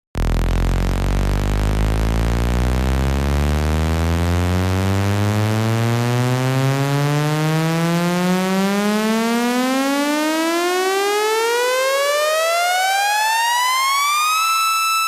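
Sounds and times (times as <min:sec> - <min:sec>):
rising buzzy test tone: 0:00.2 - 0:15.0.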